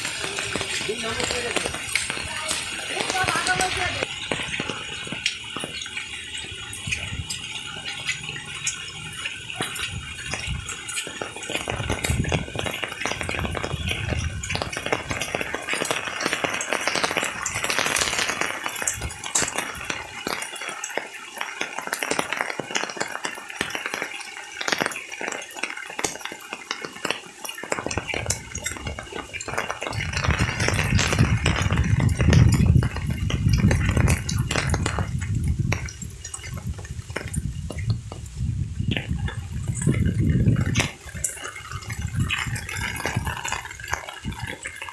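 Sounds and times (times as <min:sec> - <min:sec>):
rain pattering: 0:00.0 - 0:44.9.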